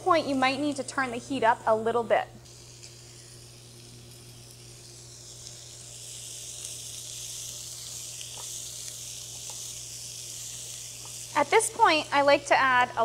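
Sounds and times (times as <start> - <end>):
food sizzling in butter: 0.0 - 13.0.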